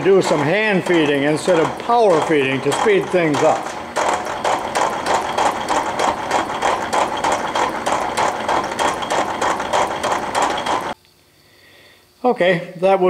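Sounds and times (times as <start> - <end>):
metal shaper ram stroking: 0.0 - 11.0.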